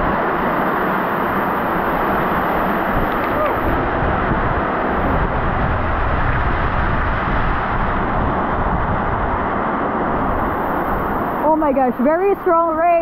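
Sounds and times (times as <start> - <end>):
heavy rain on corrugated roof: 0.0 - 11.4.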